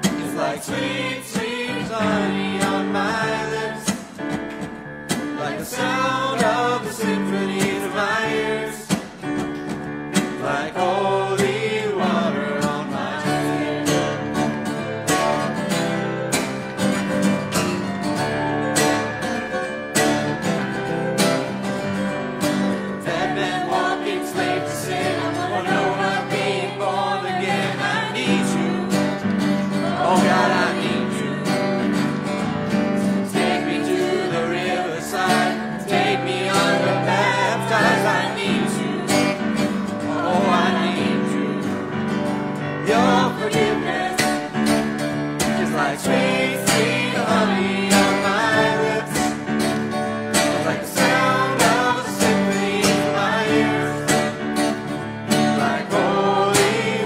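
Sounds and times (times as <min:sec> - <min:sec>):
people singing: 0:00.0 - 0:04.4, 0:05.1 - 0:09.5, 0:10.1 - 0:15.9, 0:21.3 - 0:57.0
worship band playing: 0:00.0 - 0:57.0.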